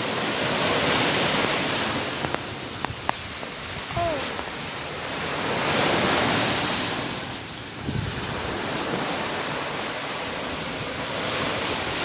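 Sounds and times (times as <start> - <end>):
ocean waves breaking on shore: 0.0 - 12.0
wind buffeting microphone: 0.0 - 12.0.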